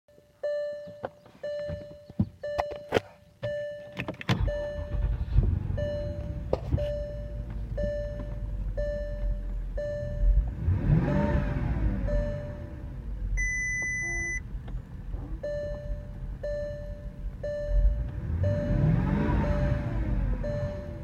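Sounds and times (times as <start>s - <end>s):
dashboard warning chime: 0.1s - 14.5s, 15.4s - 21.0s
car engine idling: 0.3s - 21.0s.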